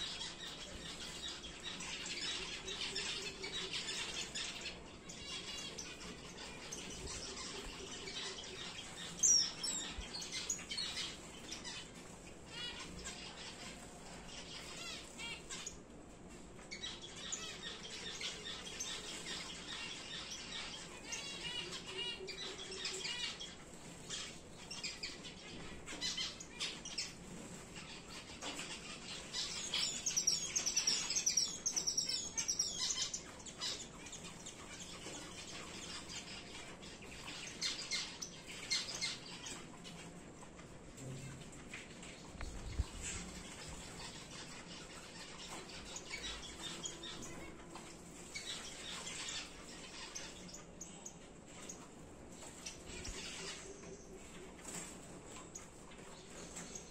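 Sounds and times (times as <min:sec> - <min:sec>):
finches chirping: 0:00.0 - 0:15.9, 0:16.6 - 0:56.9.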